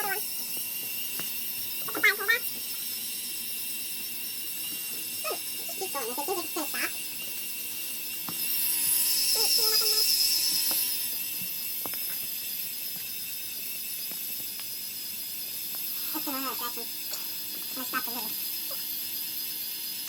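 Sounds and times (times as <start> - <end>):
whine of electric motors and gears: 0.0 - 20.0.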